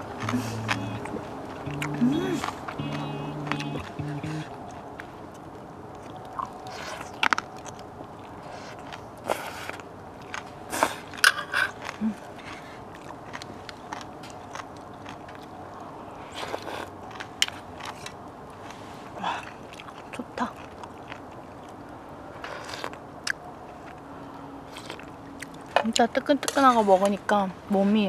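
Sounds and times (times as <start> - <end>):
chewing and biting: 0.0 - 25.8.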